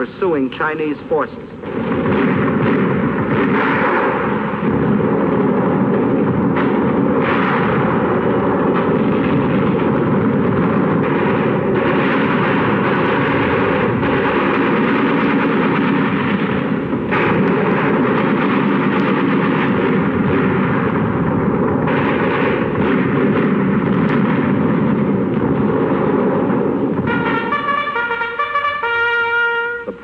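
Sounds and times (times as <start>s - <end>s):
dense gunfire: 0.0s - 30.0s
explosions and artillery blasts: 0.0s - 30.0s.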